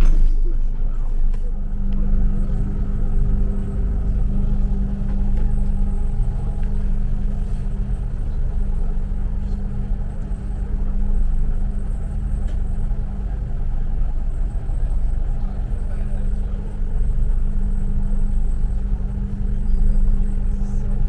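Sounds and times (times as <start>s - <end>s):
boat engine rumble and hum: 0.0s - 21.0s.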